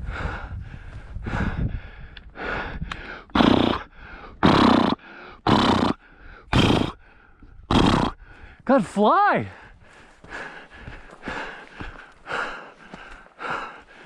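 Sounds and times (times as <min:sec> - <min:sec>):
man gasping breaths: 0:00.0 - 0:08.7, 0:09.5 - 0:14.0.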